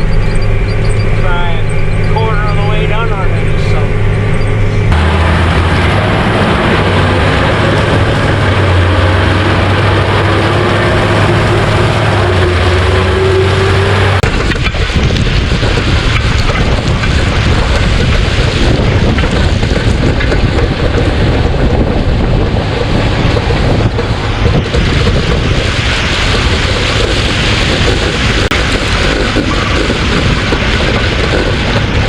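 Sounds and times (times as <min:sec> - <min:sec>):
wind buffeting on microphone: 0:00.0 - 0:32.0.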